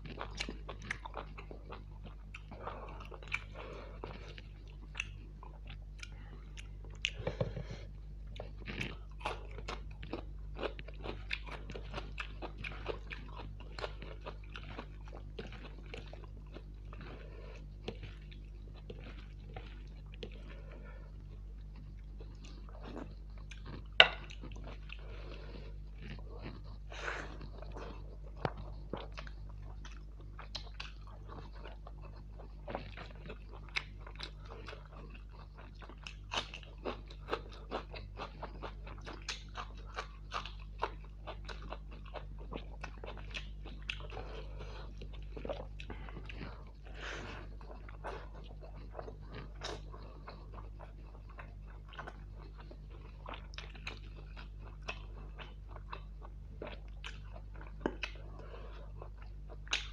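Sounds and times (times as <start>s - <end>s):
chewing with crunchy bites: 0.0s - 59.9s.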